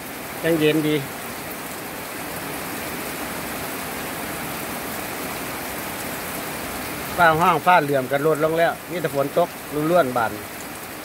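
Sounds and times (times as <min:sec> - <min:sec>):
rain falling on wet ground: 0:00.0 - 0:11.0.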